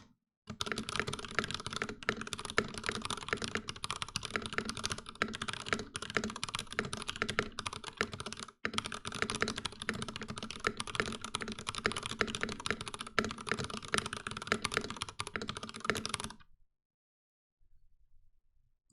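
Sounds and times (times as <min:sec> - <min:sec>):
fast typing on mechanical keyboard: 0:00.0 - 0:16.4.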